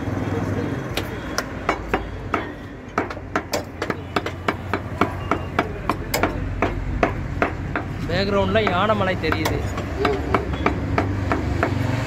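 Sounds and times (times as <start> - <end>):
cleaver chopping meat on wood: 1.0 - 12.0.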